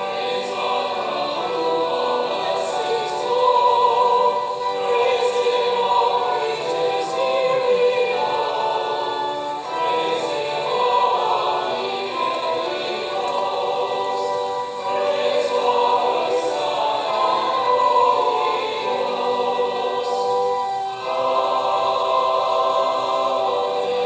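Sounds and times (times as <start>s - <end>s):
choir singing sustained chords: 0.0s - 24.0s.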